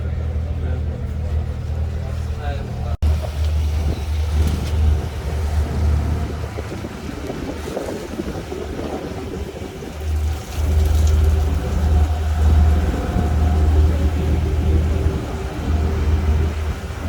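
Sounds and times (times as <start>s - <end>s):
boat engine drone: 0.0s - 17.0s
water: 0.0s - 17.0s
wind: 0.0s - 17.0s.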